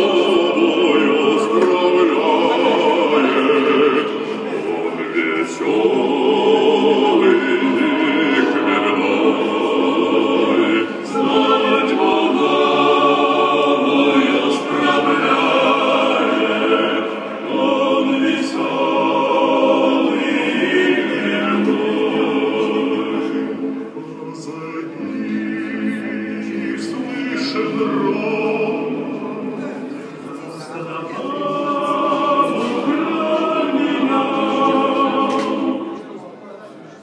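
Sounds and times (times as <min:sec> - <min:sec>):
opera singing over loudspeakers: 0:00.0 - 0:36.4.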